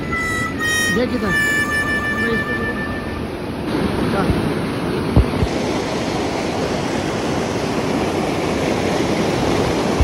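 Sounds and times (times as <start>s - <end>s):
fast-flowing river rushing: 0.0s - 10.0s.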